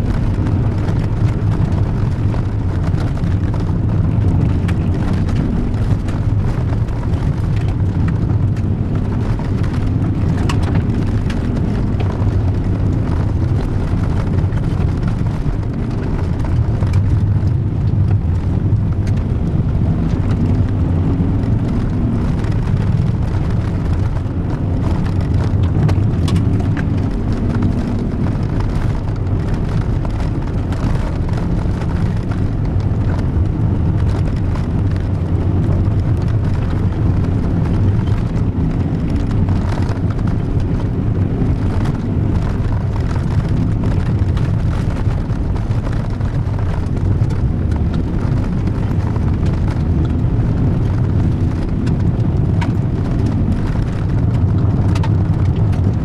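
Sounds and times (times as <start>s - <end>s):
car engine drone: 0.0s - 56.0s
gravel ticking against car: 0.0s - 56.0s.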